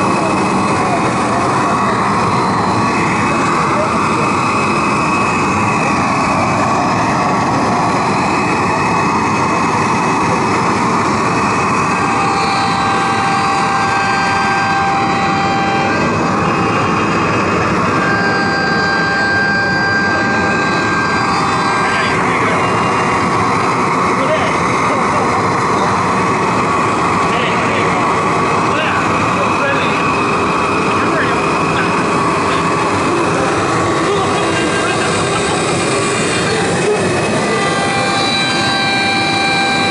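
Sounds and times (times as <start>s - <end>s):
cnc router running: 0.0s - 39.9s
high steady whine: 0.0s - 39.9s.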